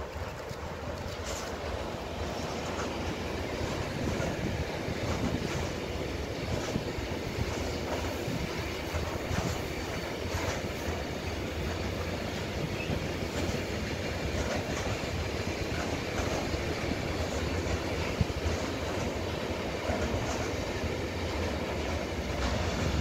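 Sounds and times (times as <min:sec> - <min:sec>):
train wheels rumbling on rail: 0:00.0 - 0:23.0
wheels clicking over track: 0:00.0 - 0:23.0.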